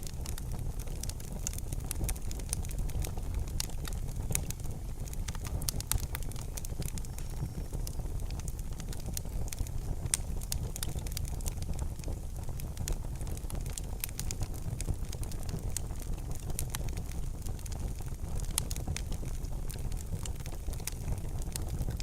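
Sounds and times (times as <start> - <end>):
low rumble of burning: 0.0 - 22.0
wood fire crackling and popping: 0.0 - 22.0.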